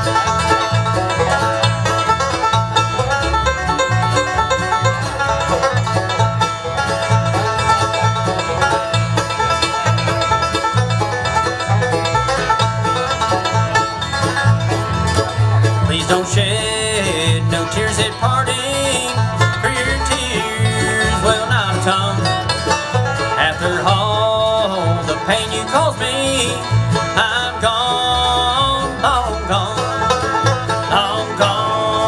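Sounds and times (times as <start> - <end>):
bluegrass band playing: 0.0 - 32.0.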